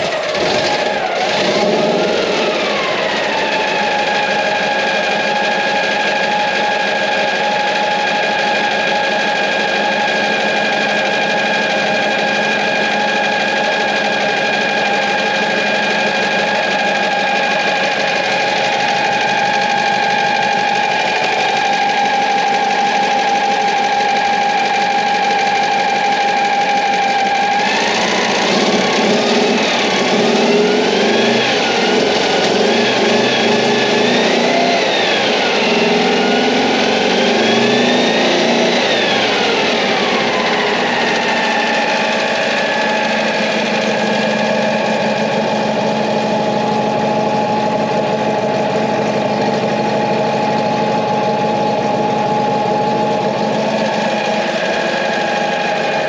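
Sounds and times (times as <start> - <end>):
engine idling: 0.0 - 56.0
engine revving: 0.0 - 56.0.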